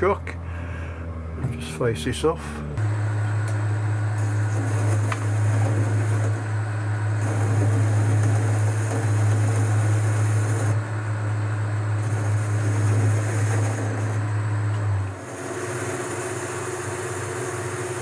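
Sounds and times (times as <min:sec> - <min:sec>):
lathe motor hum: 0:00.0 - 0:18.0.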